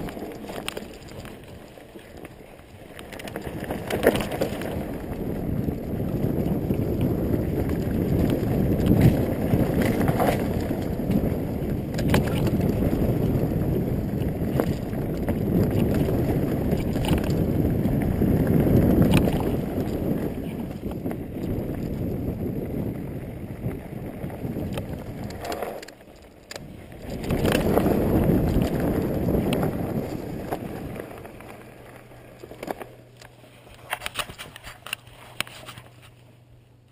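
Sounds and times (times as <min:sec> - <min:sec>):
wind rushing over microphone: 0:00.0 - 0:01.6, 0:03.2 - 0:25.9, 0:26.5 - 0:32.8
bike rattling and knocking: 0:00.0 - 0:33.2
bike tyres on dirt trail: 0:00.0 - 0:36.9.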